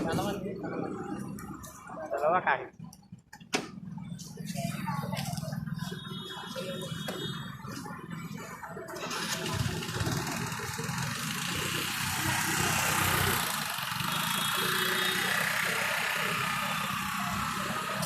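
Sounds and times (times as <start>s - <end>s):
road traffic noise: 0.0s - 18.0s
vehicle engine running: 0.0s - 18.0s.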